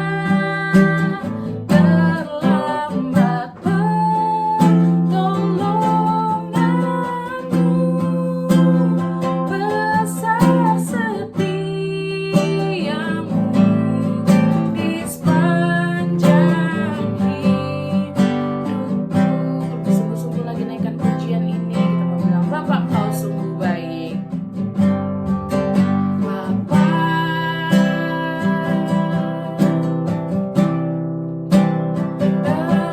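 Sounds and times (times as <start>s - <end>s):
acoustic guitar strumming chords: 0.0s - 32.9s.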